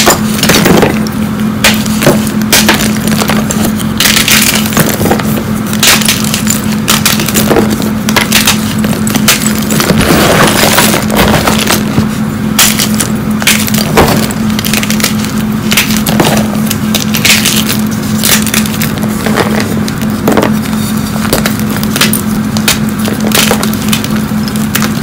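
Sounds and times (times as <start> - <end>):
chalk chunks crunching: 0.0 - 25.0
steady low hum: 0.0 - 25.0.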